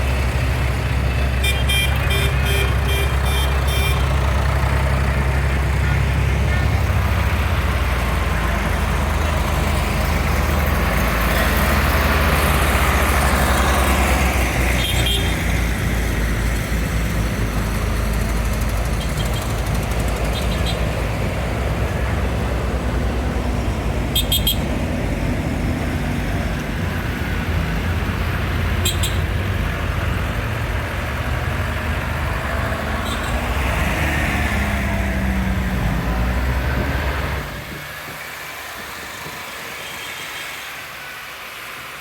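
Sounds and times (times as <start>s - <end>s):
tractor engines rumbling: 0.0s - 42.0s.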